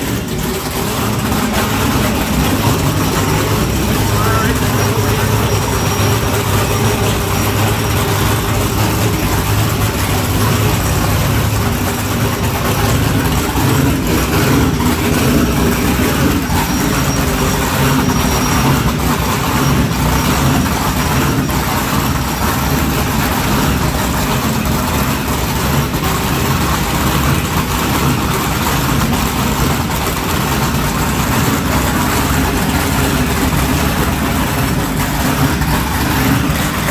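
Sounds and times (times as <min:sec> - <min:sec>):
boat engines idling: 0:00.0 - 0:36.9.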